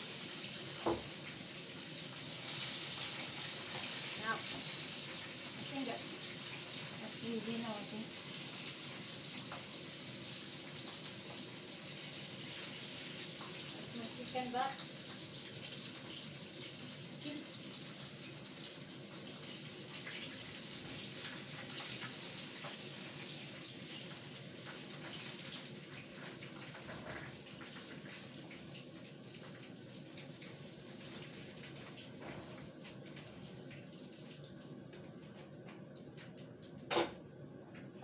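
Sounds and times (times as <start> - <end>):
chicken frying in hot oil: 0.0 - 38.0.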